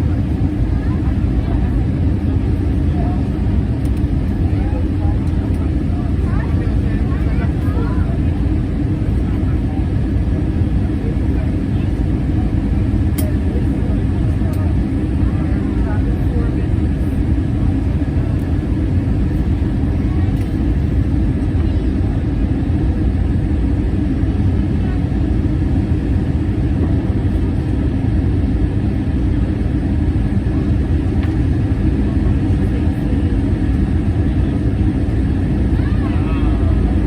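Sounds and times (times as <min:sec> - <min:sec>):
aircraft cabin engine roar: 0:00.0 - 0:37.0.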